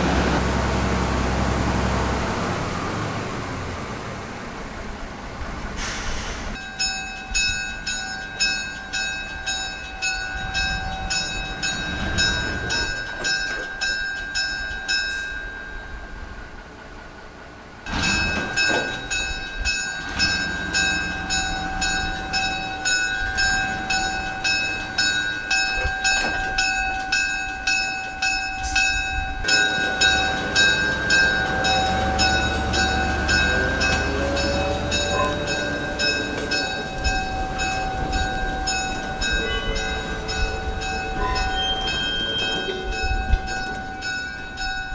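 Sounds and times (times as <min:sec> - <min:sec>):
train running noise: 0:00.0 - 0:44.9
railroad bell ringing: 0:06.6 - 0:44.9.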